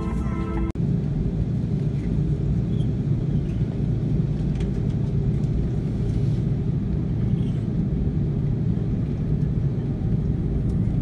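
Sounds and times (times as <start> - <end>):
airliner cabin rumble while taxiing: 0.0 - 11.0.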